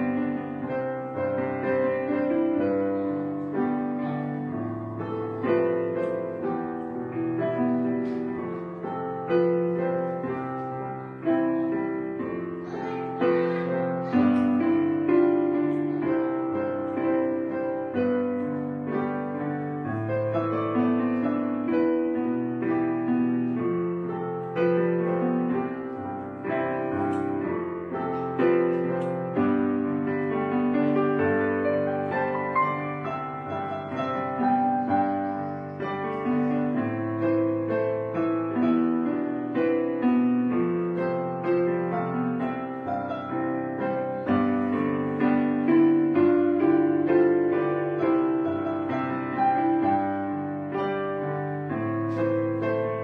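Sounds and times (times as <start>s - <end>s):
piano music: 0.0s - 53.0s.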